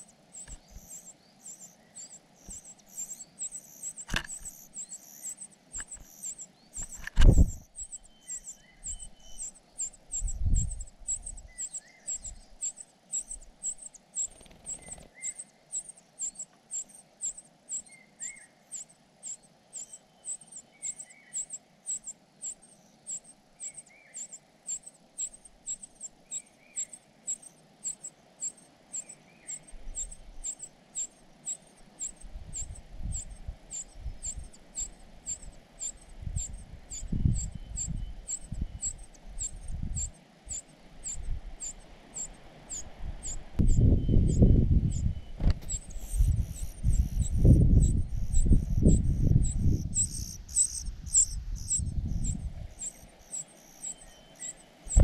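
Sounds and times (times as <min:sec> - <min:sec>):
nestlings begging calls: 0:00.0 - 0:55.0.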